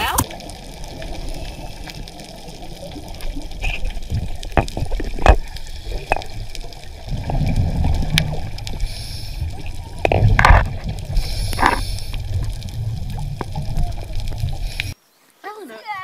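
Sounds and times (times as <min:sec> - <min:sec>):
bubbling: 0:00.0 - 0:15.0
underwater rumbling water: 0:00.0 - 0:15.0.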